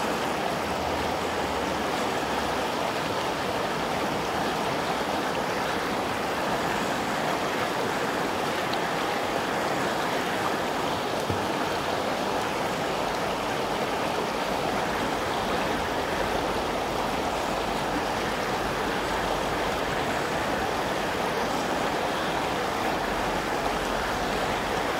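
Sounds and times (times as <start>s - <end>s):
river rushing over rocks: 0.0s - 24.9s.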